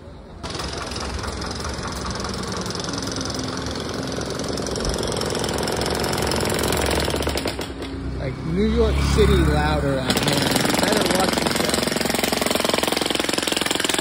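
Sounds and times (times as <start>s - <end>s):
machine engine knocking rhythmically: 0.4s - 7.9s, 10.0s - 14.0s.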